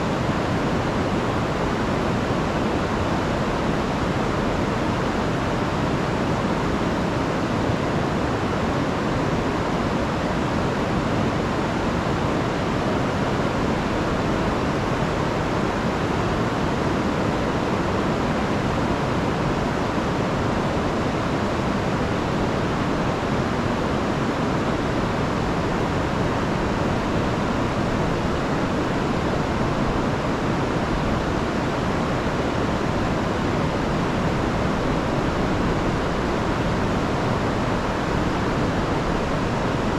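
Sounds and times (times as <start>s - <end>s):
river rushing over waterfall: 0.0s - 39.9s.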